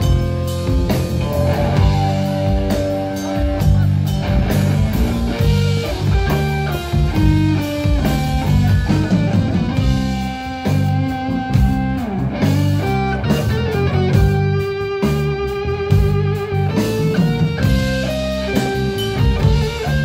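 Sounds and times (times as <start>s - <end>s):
bass guitar: 0.0s - 20.0s
drum kit: 0.0s - 20.0s
electric guitar melody: 0.0s - 20.0s.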